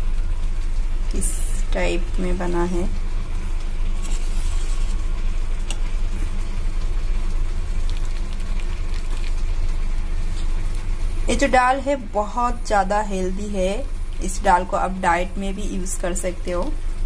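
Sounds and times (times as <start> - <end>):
pot of dal bubbling and hissing: 0.0 - 17.0.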